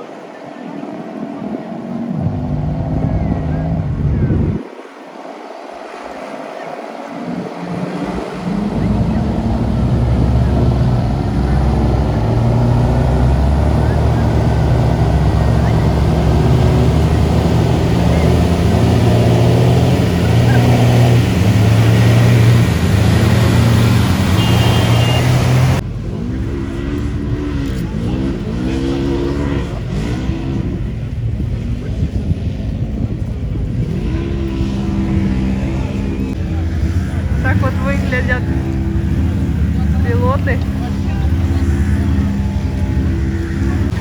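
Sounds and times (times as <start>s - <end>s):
off-road engines running: 0.0s - 44.0s
engine revving: 1.4s - 4.7s, 7.1s - 44.0s.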